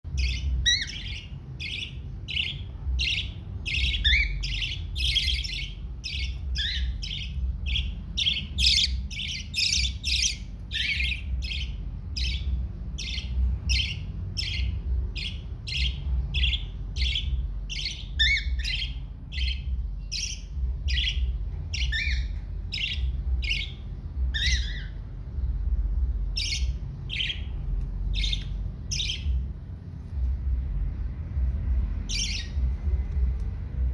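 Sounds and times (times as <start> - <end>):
low pulsing rumble: 0.0 - 33.9.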